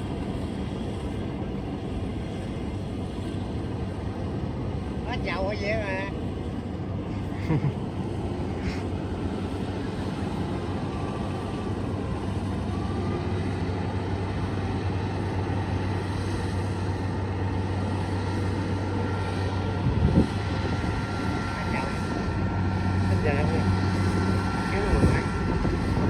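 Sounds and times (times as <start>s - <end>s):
combine harvester diesel engine: 0.0s - 26.0s
machinery noise: 0.0s - 26.0s.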